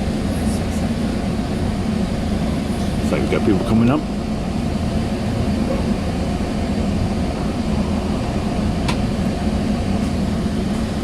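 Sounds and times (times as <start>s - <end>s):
constant hum: 0.0s - 11.0s
train coach rumbling: 0.0s - 11.0s.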